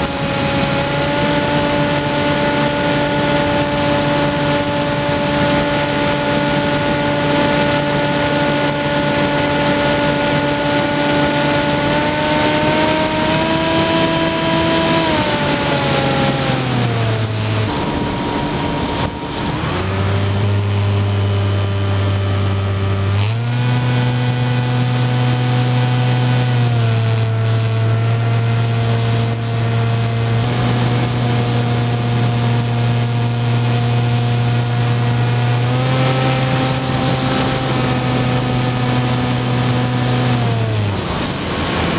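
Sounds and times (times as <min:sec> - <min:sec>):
rush of air noise: 0:00.0 - 0:23.2, 0:27.7 - 0:41.9
electric motor and propeller whine: 0:00.0 - 0:41.9.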